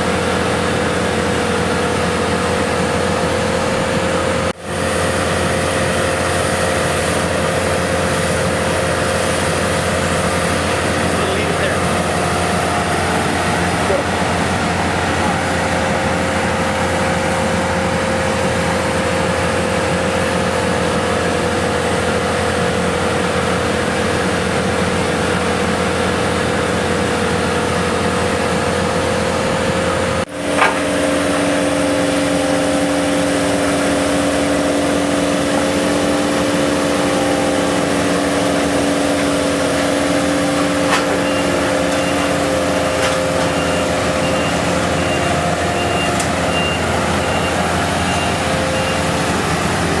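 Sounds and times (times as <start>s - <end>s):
heavy machinery engine running: 0.0s - 50.0s
lower pitched machine running: 0.0s - 50.0s.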